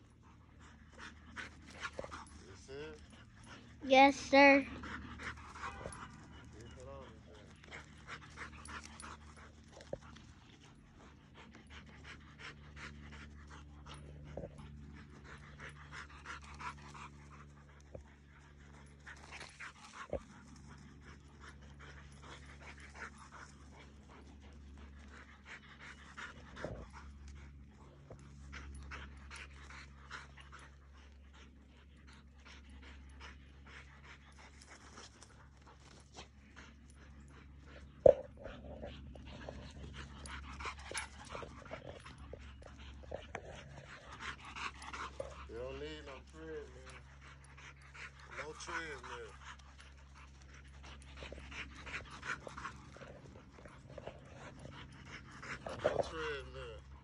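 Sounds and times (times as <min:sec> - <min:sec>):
dogs panting hard: 0:00.0 - 0:57.0.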